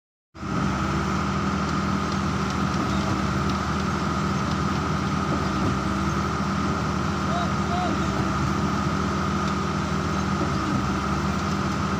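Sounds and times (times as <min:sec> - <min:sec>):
engine humming with high whine: 0:00.4 - 0:11.9.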